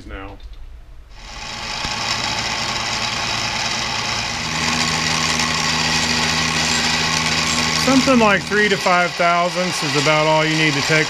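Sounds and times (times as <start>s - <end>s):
mini mill cutting metal: 1.2s - 11.0s.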